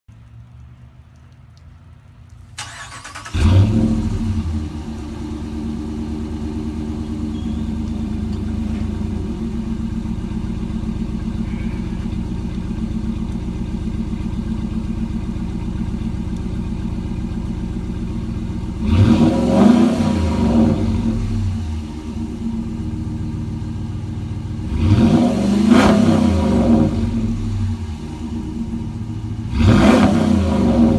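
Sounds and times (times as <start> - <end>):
pickup engine idling rumble: 1.8 - 30.9
engine blipped: 2.6 - 30.9.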